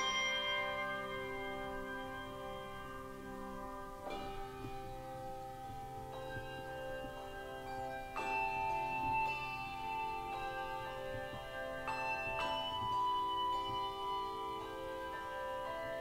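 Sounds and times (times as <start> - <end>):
handbell choir ringing chords: 0.0 - 16.0.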